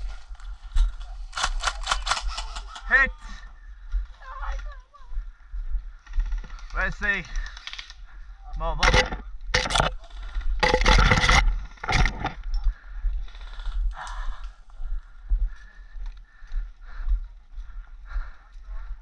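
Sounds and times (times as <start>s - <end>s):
steady low rumble: 3.4s - 19.0s.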